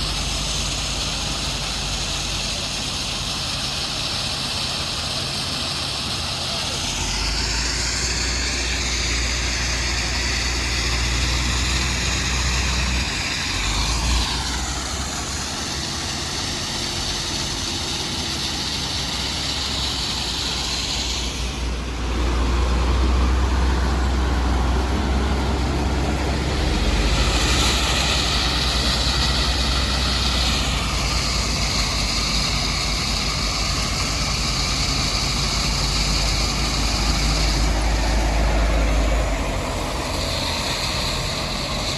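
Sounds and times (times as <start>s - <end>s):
heavy machinery engine drone: 0.0s - 41.9s
high machinery whine: 0.0s - 41.9s.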